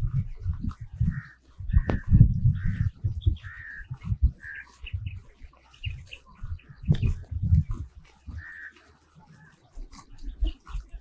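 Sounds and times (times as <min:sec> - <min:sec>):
birds harsh calls: 0:00.1 - 0:11.0.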